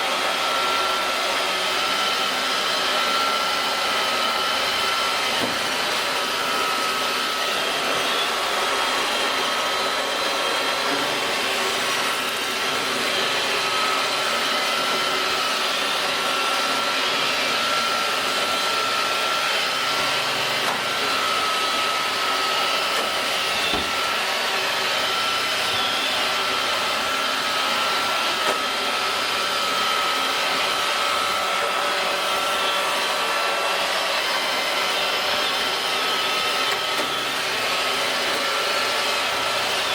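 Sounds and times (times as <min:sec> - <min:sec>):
robot vacuum running: 0:00.0 - 0:39.9.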